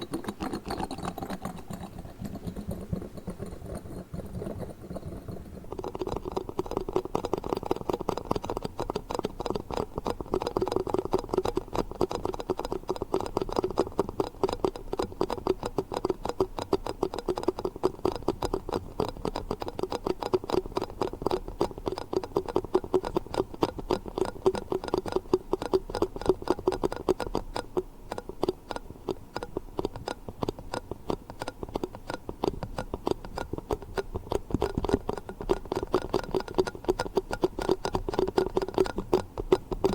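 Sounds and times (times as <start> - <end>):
yogurt cups tapped: 0.0 - 39.9.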